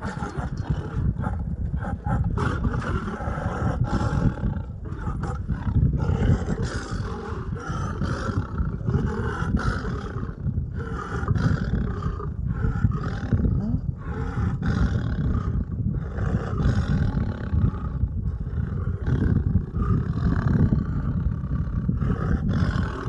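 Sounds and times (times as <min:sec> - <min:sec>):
lion roaring and growling: 0:00.0 - 0:23.0.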